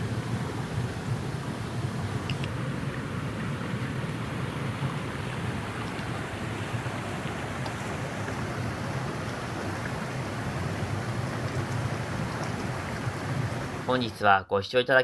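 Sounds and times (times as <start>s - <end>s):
stream rushing over rocks: 0.0s - 14.2s.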